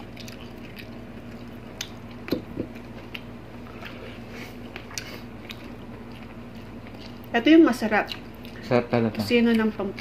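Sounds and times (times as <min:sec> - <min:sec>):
wet chewing and lip smacks: 0:00.0 - 0:07.3, 0:08.0 - 0:10.0
steady low hum: 0:00.0 - 0:10.0.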